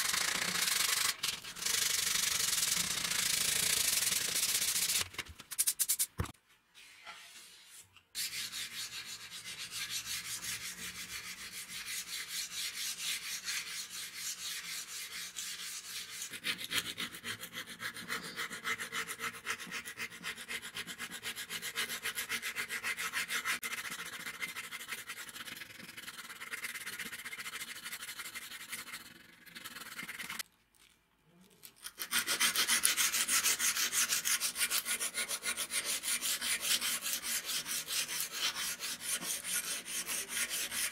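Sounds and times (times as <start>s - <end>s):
sandpaper rubbing metal blade: 0.0s - 6.2s, 8.2s - 30.4s, 31.9s - 40.9s.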